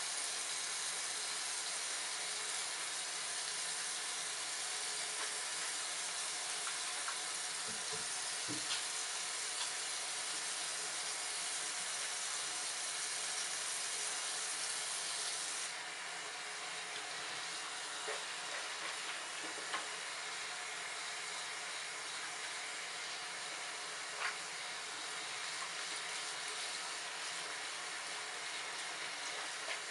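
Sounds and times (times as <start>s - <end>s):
faucet running: 0.0s - 29.9s.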